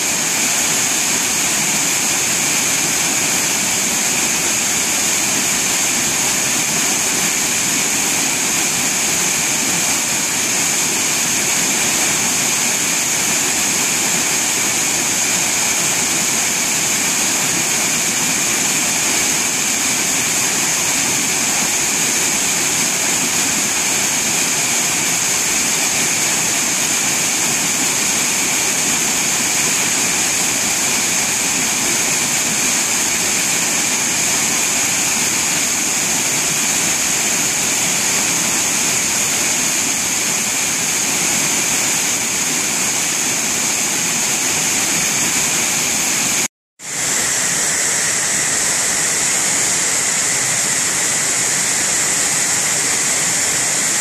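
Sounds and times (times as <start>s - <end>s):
waterfall pouring over rocks: 0.0s - 54.0s.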